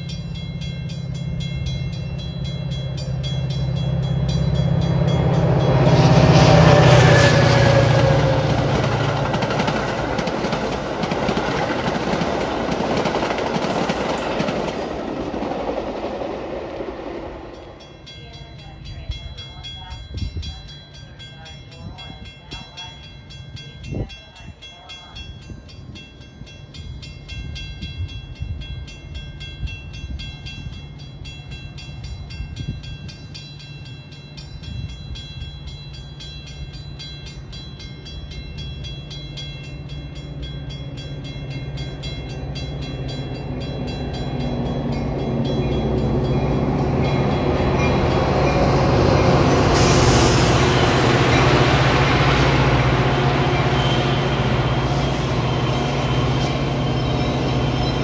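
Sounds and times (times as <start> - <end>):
train approaching: 0.0 - 58.0.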